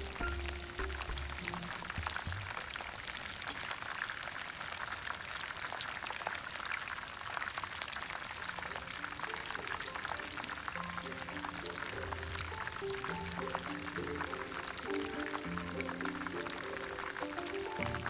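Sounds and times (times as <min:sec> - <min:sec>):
mushrooms frying in hot oil: 0:00.0 - 0:18.0.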